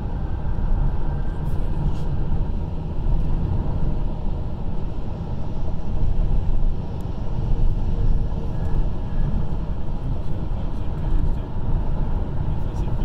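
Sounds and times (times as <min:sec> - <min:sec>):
car road noise rumble: 0:00.0 - 0:13.0.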